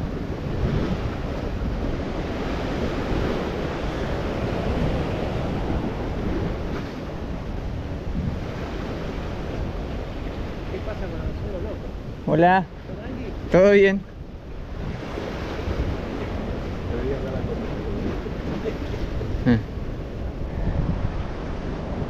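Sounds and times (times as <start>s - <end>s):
sea waves breaking on rocks: 0.0s - 22.0s
wind blowing on microphone: 0.0s - 22.0s.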